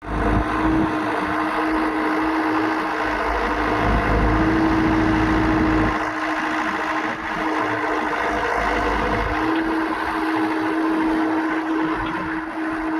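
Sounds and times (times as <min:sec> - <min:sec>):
diesel engine humming: 0:00.0 - 0:12.9.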